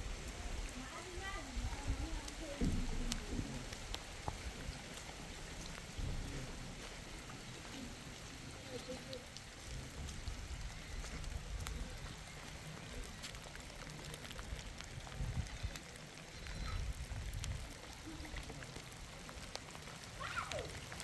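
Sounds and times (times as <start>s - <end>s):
rain drops ticking: 0.0s - 21.0s.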